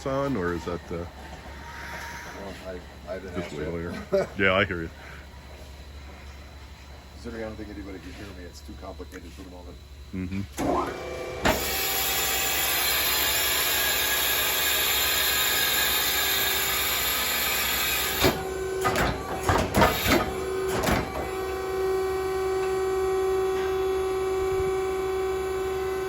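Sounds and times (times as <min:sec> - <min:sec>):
steady machine hiss: 0:00.0 - 0:10.5, 0:11.4 - 0:26.0
steady humming tone: 0:00.0 - 0:26.0.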